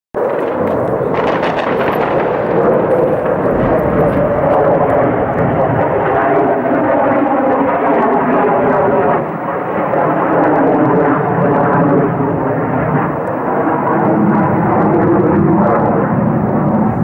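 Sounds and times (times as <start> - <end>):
military jet flying overhead: 0.2 - 17.0.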